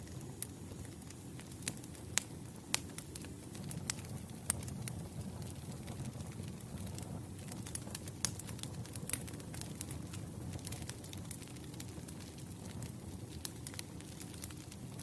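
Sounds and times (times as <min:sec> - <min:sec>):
burning logs popping and snapping: 0:00.0 - 0:15.0
low rumble of flames: 0:00.0 - 0:15.0.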